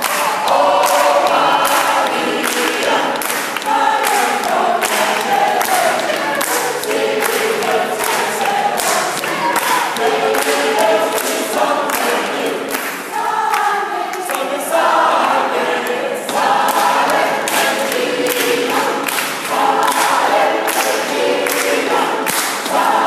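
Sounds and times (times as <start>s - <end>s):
handclaps: 0.0s - 14.5s, 15.8s - 23.0s
gospel choir singing: 0.0s - 23.0s.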